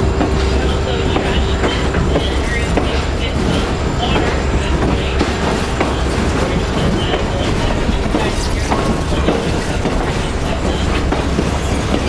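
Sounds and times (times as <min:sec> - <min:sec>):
train rumbling: 0:00.0 - 0:12.0
train wheels clicking and knocking: 0:00.0 - 0:12.0.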